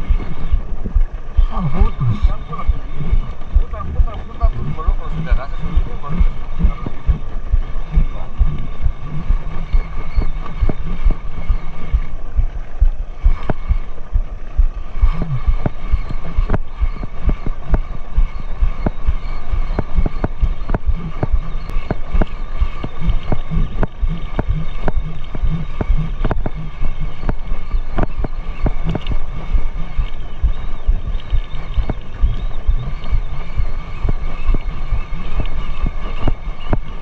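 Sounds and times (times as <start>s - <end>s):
faint steady whine: 0.0s - 37.0s
sharp regular ticks: 0.0s - 37.0s.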